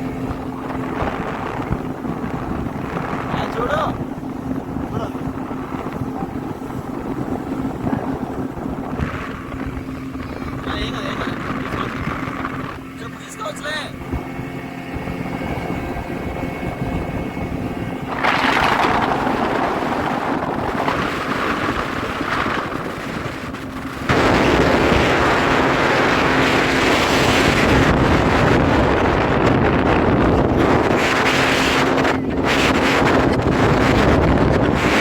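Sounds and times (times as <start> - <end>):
speedboat engine running: 0.0 - 35.0
water noise: 0.0 - 35.0
wind on microphone: 0.0 - 35.0.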